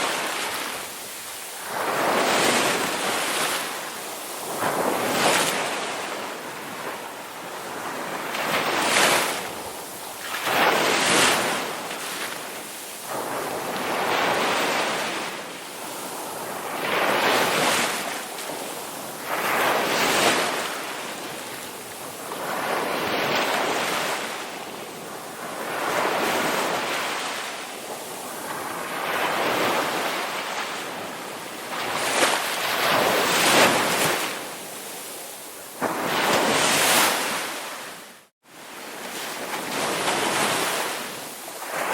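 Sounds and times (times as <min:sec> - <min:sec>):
ocean waves crashing: 0:00.0 - 0:41.9.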